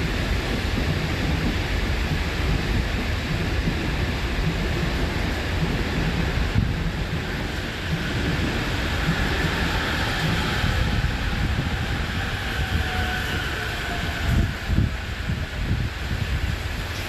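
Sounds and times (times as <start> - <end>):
electric train rumble: 0.0 - 17.0
faint train whine: 0.0 - 17.0.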